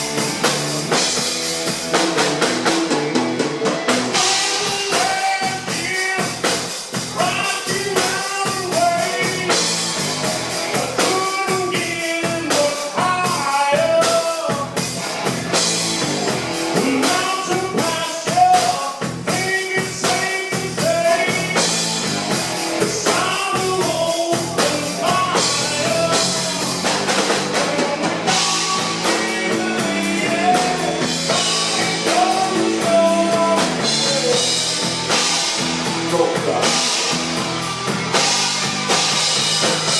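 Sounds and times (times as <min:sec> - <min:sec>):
rock music with singing: 0:00.0 - 0:39.9.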